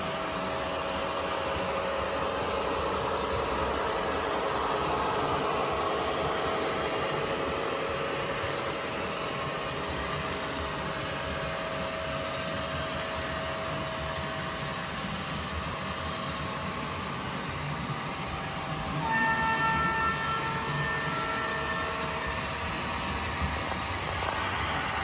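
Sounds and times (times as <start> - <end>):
diesel train engine running: 0.0 - 25.0.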